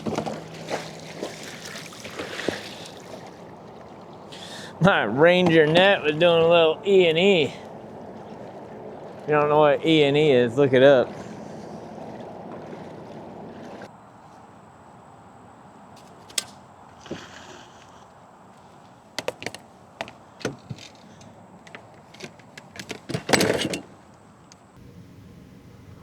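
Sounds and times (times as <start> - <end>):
water and boat noise: 0.0 - 26.0.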